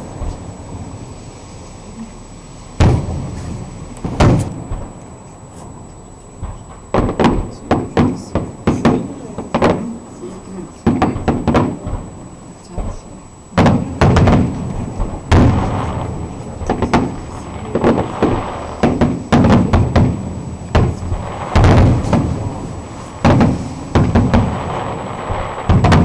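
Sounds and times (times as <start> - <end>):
firework shells bursting: 2.7 - 26.0.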